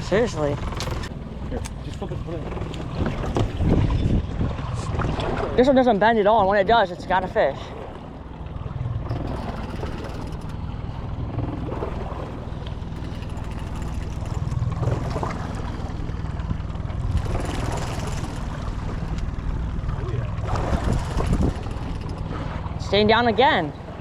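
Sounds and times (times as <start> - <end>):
boat motor droning: 0.0 - 24.0
water noise: 0.0 - 24.0
wind: 0.0 - 24.0.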